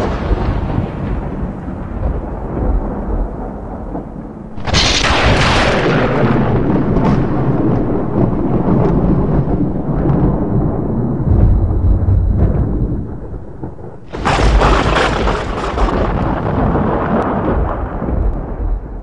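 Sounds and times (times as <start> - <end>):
loud thunder crack: 0.0 - 19.0
thunder rumbling: 0.0 - 19.0.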